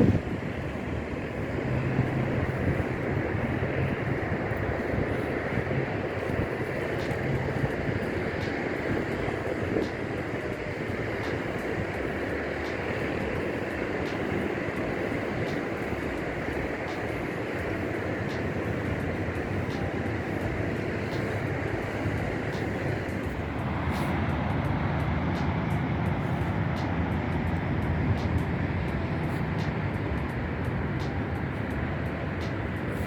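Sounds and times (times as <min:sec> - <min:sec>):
highway traffic rushing: 0:00.0 - 0:33.0.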